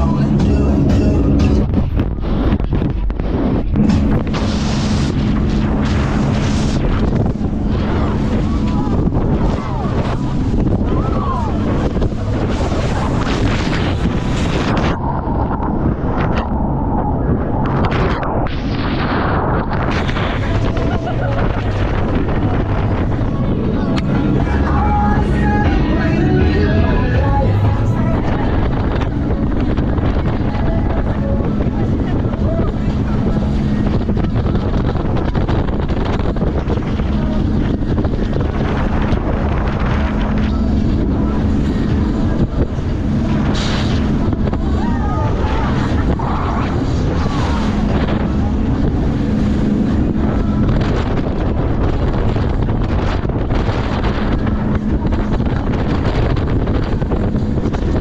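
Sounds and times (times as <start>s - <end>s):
boat engine running: 0.0s - 58.0s
water rushing past hull: 0.0s - 58.0s
wind buffeting microphone: 0.0s - 58.0s.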